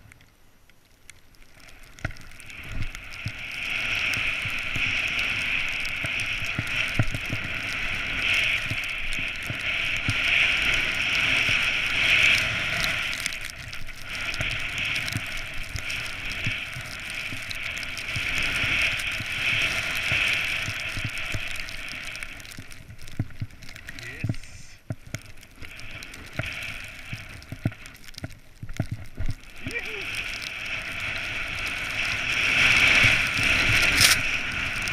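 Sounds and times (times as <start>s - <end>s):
wind rushing over camera: 1.1s - 34.9s
skis hissing through snow: 2.4s - 22.9s, 25.6s - 27.9s, 29.4s - 34.9s.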